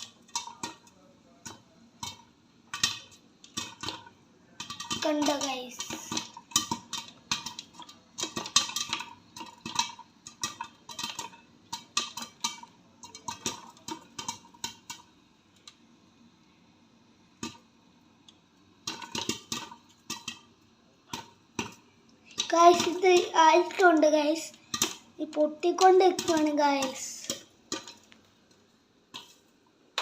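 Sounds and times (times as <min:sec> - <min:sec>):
popcorn popping in a pan: 0:00.0 - 0:30.0.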